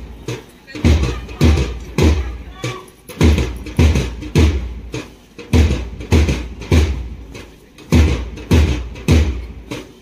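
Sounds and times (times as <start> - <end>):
marching bass drum beating: 0.0 - 10.0.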